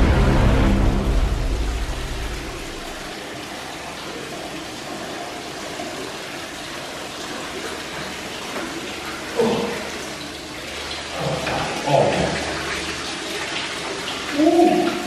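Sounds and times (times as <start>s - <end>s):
water gushing into bathtub: 0.0s - 15.0s.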